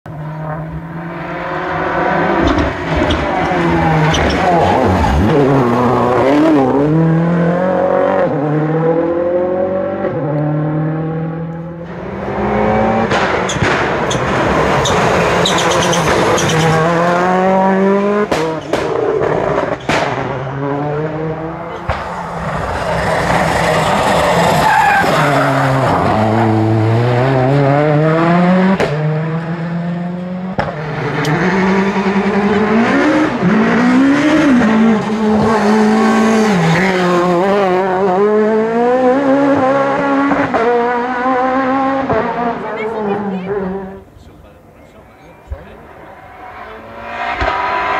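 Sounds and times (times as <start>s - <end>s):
rally car engines revving: 0.1s - 47.9s.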